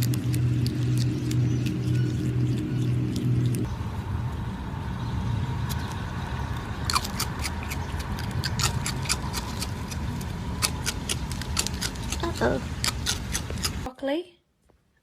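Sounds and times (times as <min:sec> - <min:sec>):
low rumble: 0:00.0 - 0:12.9.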